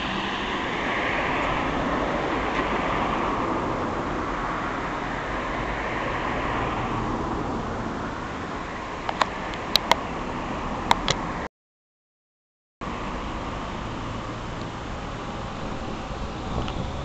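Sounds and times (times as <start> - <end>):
rushing outdoor background noise: 0.0 - 11.5, 12.8 - 17.0.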